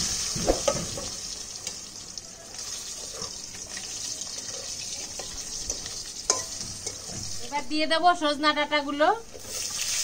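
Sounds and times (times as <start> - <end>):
potatoes sizzling in hot oil: 0.0 - 7.9, 9.3 - 10.0.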